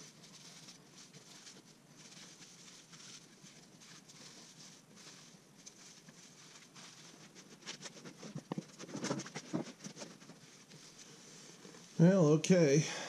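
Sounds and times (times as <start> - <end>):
cloth rubbing on wooden bowl: 0.0 - 12.4.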